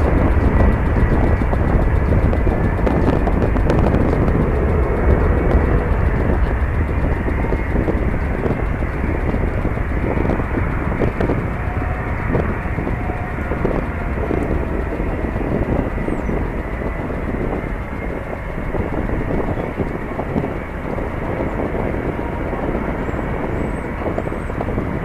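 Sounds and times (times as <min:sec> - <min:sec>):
jet engines whining: 0:00.0 - 0:25.0
wind buffeting on microphone: 0:00.0 - 0:25.0.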